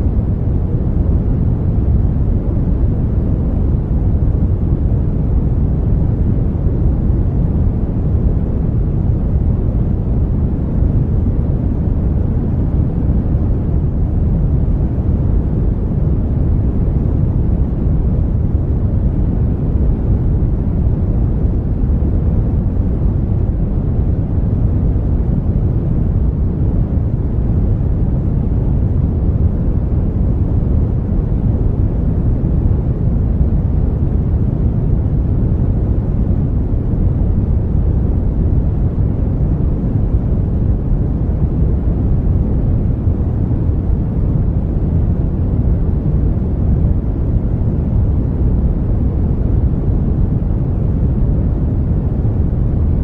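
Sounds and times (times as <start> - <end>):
brown noise: 0.0 - 53.0.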